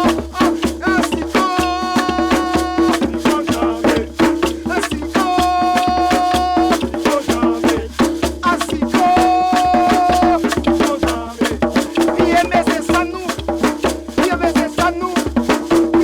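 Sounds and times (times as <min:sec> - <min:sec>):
melody with fast percussion: 0:00.0 - 0:15.7.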